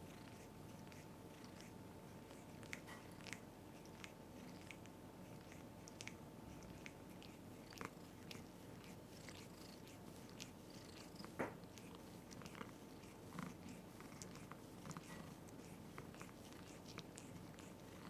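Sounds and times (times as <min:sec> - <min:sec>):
cat purring: 0:00.0 - 0:18.0
licking and nibbling clicks: 0:02.3 - 0:18.0.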